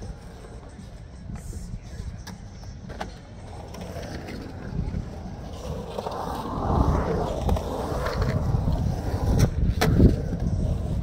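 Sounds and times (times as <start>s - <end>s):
skateboard clacks: 0.0s - 11.0s
skateboard wheels rolling on concrete: 0.0s - 11.0s.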